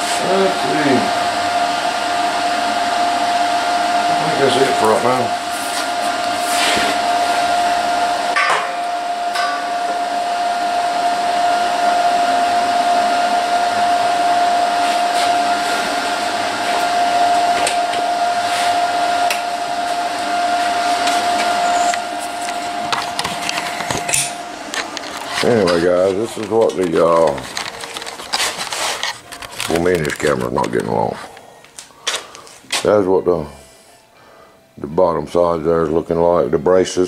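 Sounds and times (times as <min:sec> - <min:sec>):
electric motor whining: 0:00.0 - 0:32.4.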